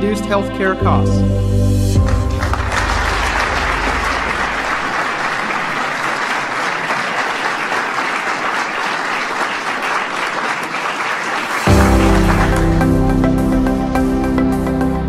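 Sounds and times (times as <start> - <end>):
audience applauding: 2.0 - 14.6.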